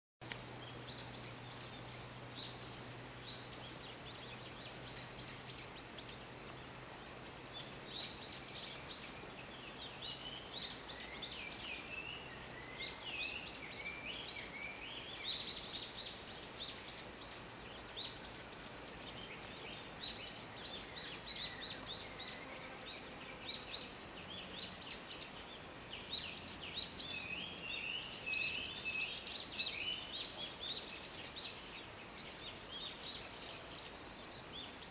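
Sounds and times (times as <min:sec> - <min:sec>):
steady high hiss: 0:00.2 - 0:34.9
wild birds chirping and whistling: 0:00.6 - 0:34.9.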